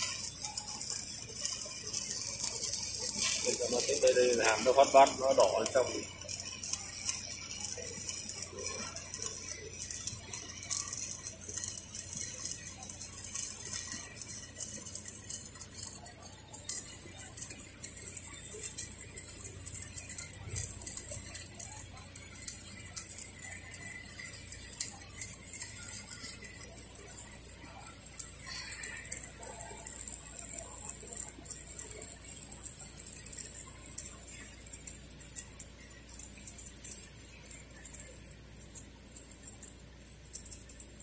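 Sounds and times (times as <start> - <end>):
welding arc crackling: 0.0 - 41.0.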